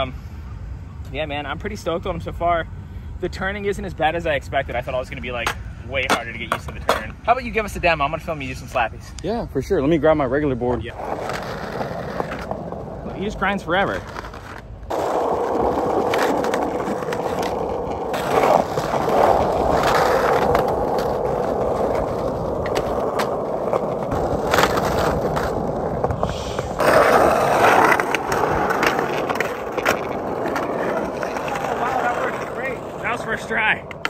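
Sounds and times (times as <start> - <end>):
skateboard trucks scraping concrete: 3.3 - 9.1, 9.9 - 34.0
skateboard wheels rumbling on asphalt: 3.5 - 8.8, 10.6 - 34.0.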